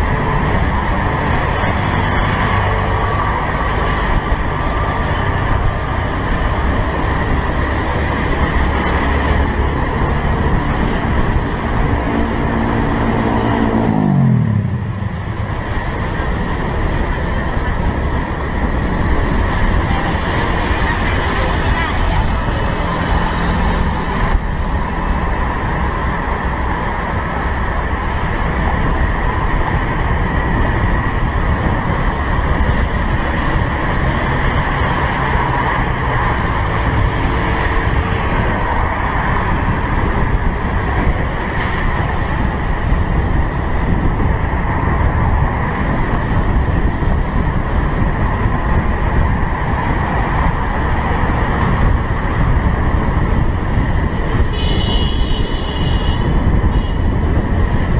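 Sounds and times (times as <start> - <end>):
passing traffic: 0.0 - 57.9
road noise: 0.0 - 57.9
wind rushing: 0.0 - 57.9.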